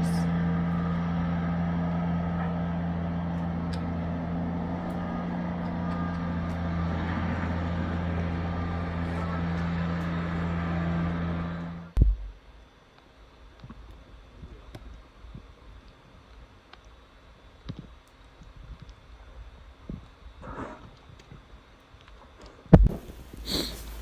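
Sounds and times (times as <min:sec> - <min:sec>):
vehicle engine humming: 0:00.0 - 0:20.6, 0:22.6 - 0:24.0.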